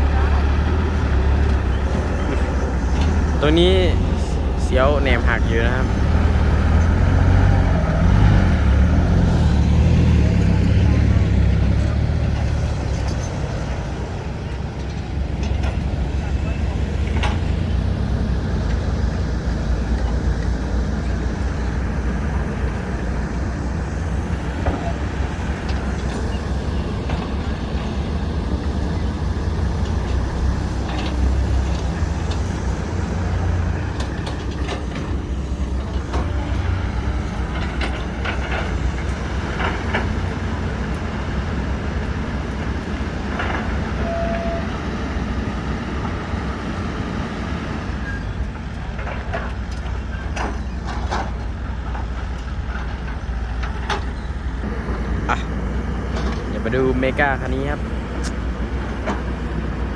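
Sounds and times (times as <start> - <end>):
heavy diesel engines rumbling: 0.0 - 59.9.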